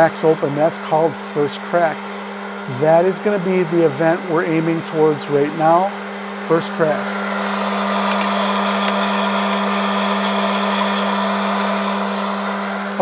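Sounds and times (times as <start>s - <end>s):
popcorn popper fan humming: 0.0s - 13.0s.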